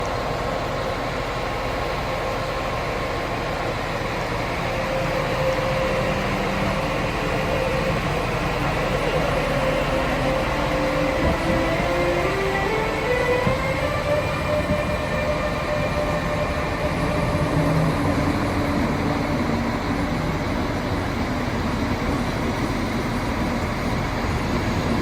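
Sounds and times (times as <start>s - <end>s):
train rumbling with whine: 0.0s - 25.0s.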